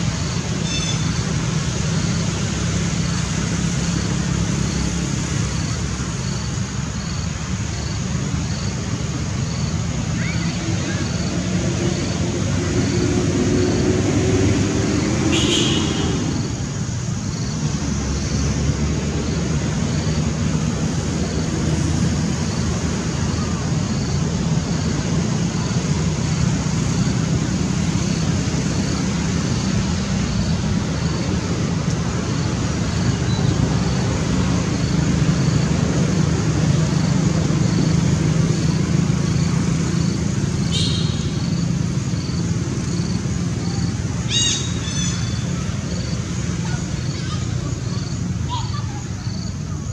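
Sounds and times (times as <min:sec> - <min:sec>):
road traffic rumble: 0:00.0 - 0:49.9.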